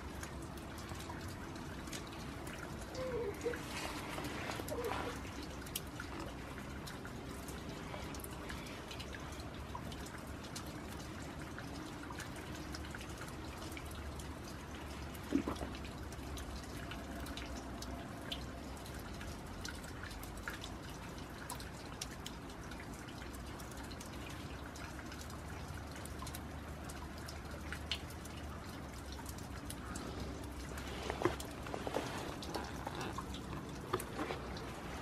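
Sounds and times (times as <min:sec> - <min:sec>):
steady light rain: 0:00.0 - 0:35.0
water drips: 0:00.0 - 0:35.0.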